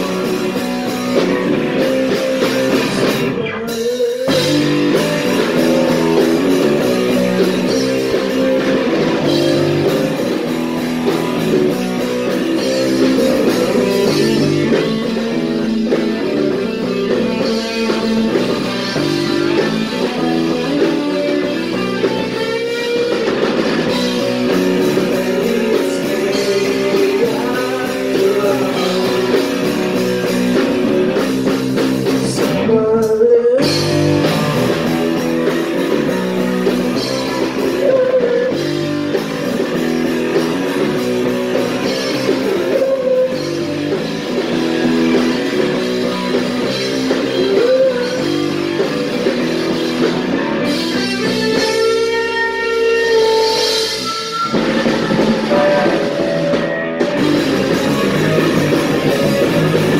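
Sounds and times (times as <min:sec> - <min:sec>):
person singing: 0:00.0 - 0:10.4, 0:12.2 - 0:31.2, 0:32.0 - 0:39.3, 0:41.5 - 0:49.5, 0:50.6 - 0:59.9
punk rock band playing live: 0:00.0 - 0:59.9.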